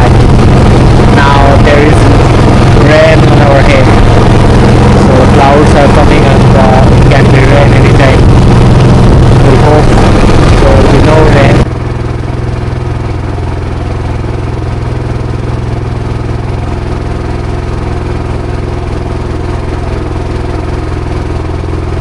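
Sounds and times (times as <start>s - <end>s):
motorboat engine drone: 0.0s - 22.0s.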